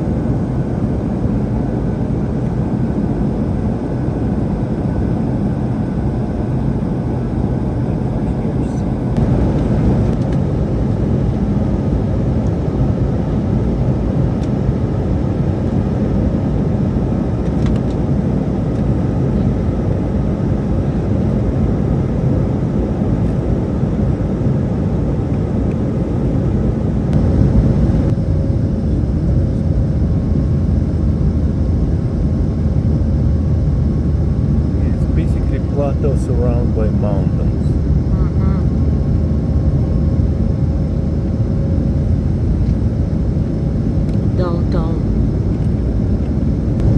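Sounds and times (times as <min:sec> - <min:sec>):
jet airliner cabin rumble: 0:00.0 - 0:46.9.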